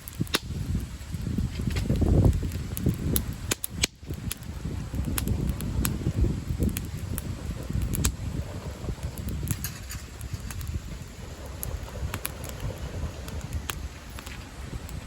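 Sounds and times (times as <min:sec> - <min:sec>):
campfire crackling: 0:00.0 - 0:15.0
low rumbling noise: 0:00.0 - 0:15.0.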